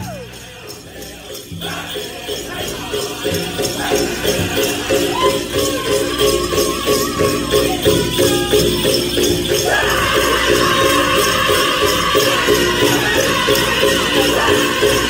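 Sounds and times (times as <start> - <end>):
bells jingling: 0.0 - 15.0
group singing: 0.0 - 15.0.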